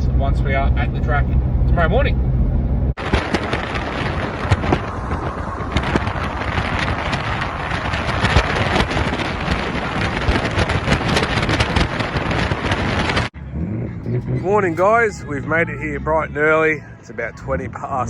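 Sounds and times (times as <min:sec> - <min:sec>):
car road and wind noise: 0:00.0 - 0:18.0
wind buffeting microphone: 0:00.0 - 0:18.0.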